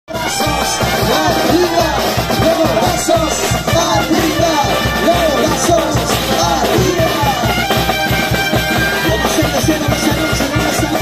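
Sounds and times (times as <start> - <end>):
brass band playing: 0.1 - 11.0
congas and drum kit beat: 0.1 - 11.0.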